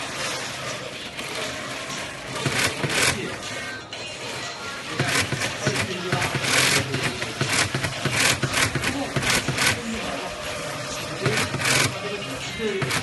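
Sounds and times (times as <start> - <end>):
motor hum: 0.0 - 13.0
sewing machine running in bursts: 1.2 - 3.4, 4.8 - 13.0.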